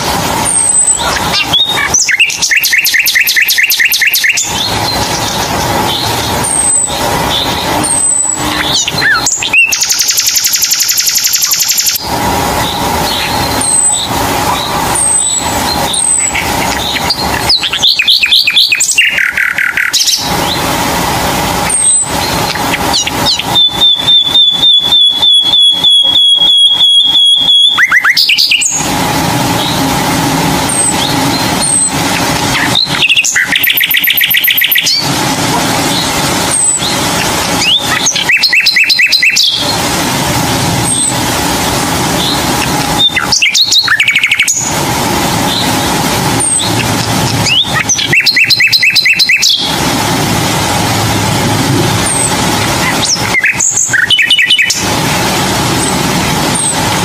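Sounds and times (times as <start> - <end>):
birds chirping and trilling: 0.0 - 57.0
steady background hum: 0.0 - 57.0.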